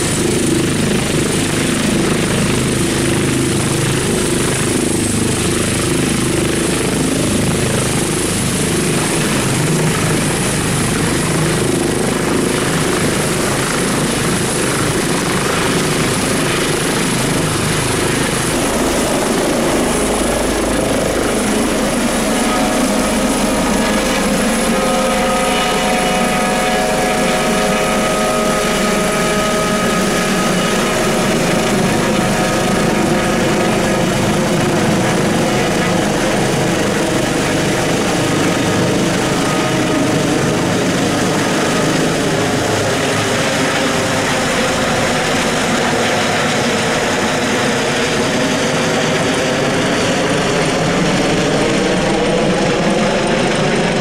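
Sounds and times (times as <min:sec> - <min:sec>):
helicopter rotor and turbine noise: 0:00.0 - 0:54.0
steady turbine whine: 0:00.0 - 0:54.0.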